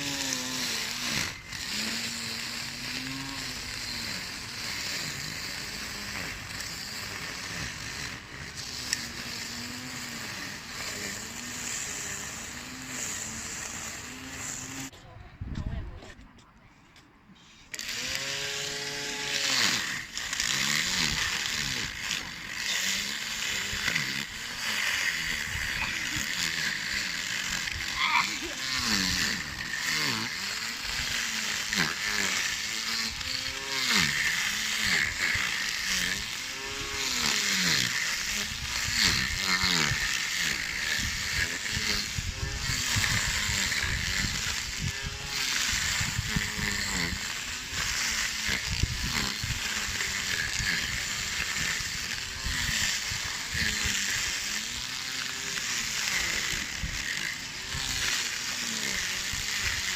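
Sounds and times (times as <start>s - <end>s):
mower blade hiss: 0.0s - 14.9s, 17.4s - 59.9s
lawn mower motor: 0.0s - 16.2s, 17.3s - 59.9s.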